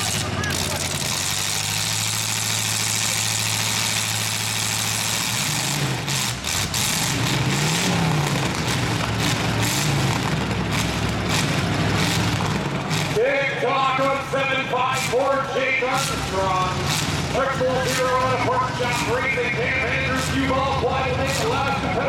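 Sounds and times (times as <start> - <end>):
truck engines revving: 0.0 - 22.0
trucks hitting each other: 0.0 - 22.0.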